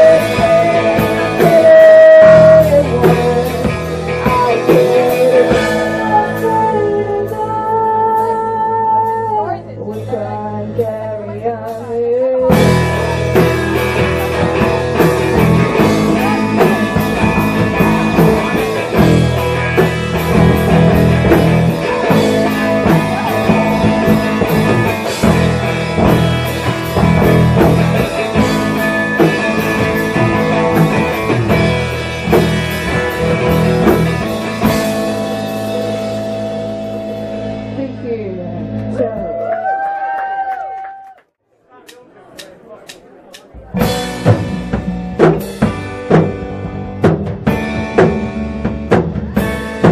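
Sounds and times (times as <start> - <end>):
rock band playing live: 0.0 - 39.8, 43.4 - 49.9.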